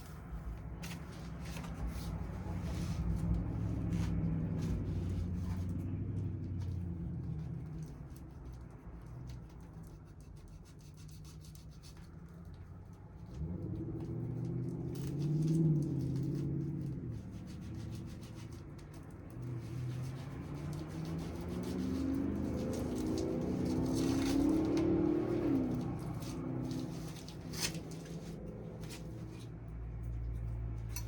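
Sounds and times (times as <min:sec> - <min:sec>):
vehicle engine revving: 0:00.6 - 0:08.6, 0:12.9 - 0:31.0.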